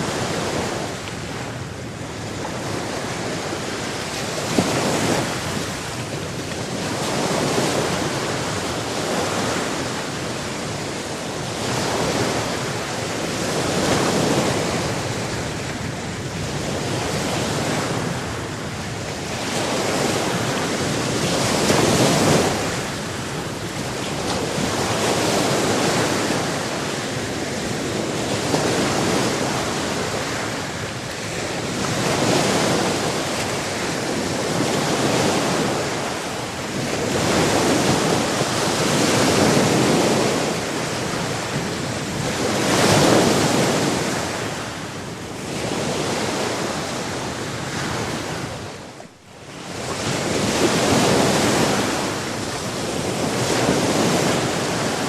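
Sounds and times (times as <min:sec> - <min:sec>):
waves breaking: 0:00.0 - 0:55.0.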